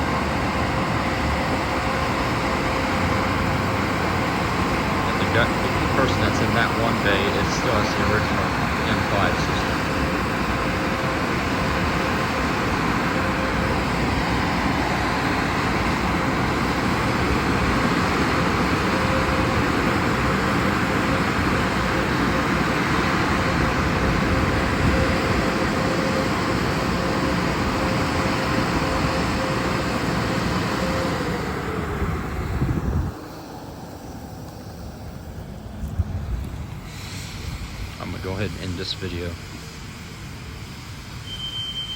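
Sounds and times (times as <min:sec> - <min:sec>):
car wash spraying machinery: 0:00.0 - 0:41.9
constant machine hum: 0:00.0 - 0:41.9.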